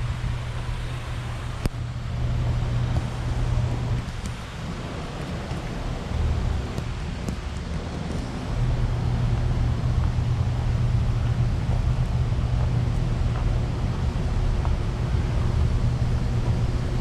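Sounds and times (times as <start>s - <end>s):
broad rushing noise: 0.0s - 17.0s
steady low hum: 0.0s - 17.0s.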